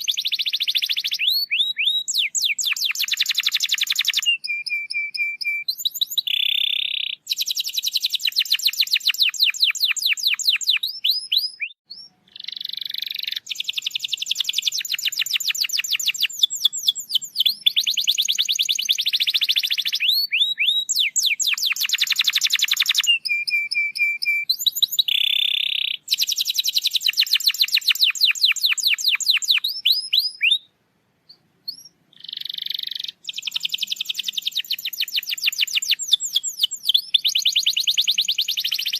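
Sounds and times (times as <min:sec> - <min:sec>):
canary chirping and trilling: 0:00.0 - 0:30.7, 0:31.3 - 0:38.9
canary held whistles: 0:00.0 - 0:30.7, 0:31.3 - 0:38.9.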